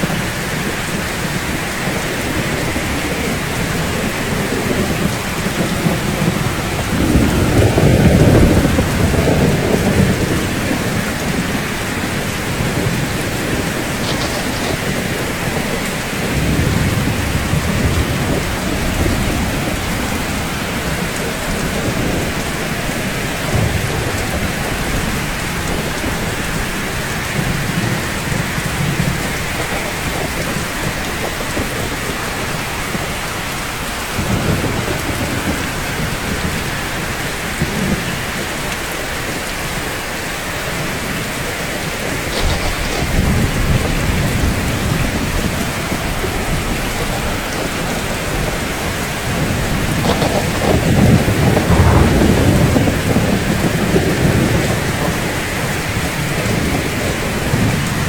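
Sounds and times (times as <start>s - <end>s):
steady rain falling: 0.0s - 58.0s
thunder rumbling: 0.0s - 58.0s.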